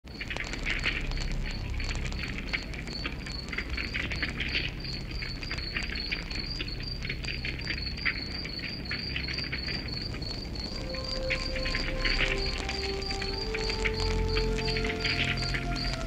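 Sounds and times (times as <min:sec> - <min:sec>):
cricket chirping: 0:00.1 - 0:16.0
wood fire crackling: 0:00.1 - 0:16.0.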